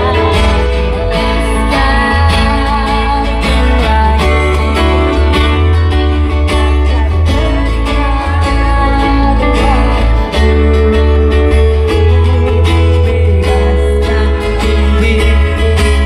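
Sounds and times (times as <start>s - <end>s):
guitar: 0.0s - 16.0s
heavy bass: 0.0s - 16.0s.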